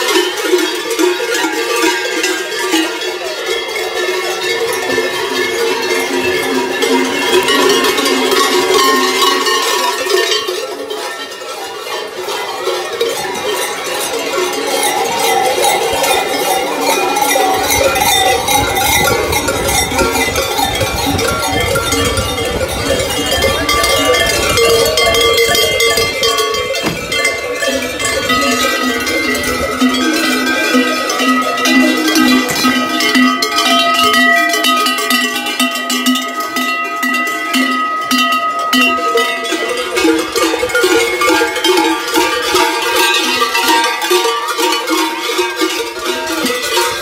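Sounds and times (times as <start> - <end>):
large cowbells clanging: 0.0 - 47.0.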